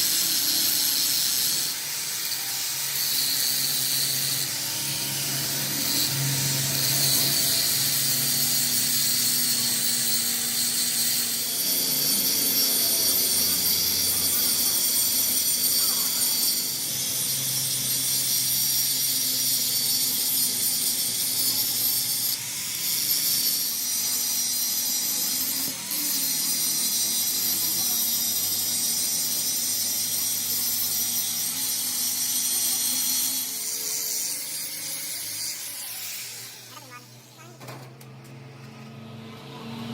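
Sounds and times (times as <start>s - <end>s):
electric arc welding sizzle: 0.0s - 37.6s.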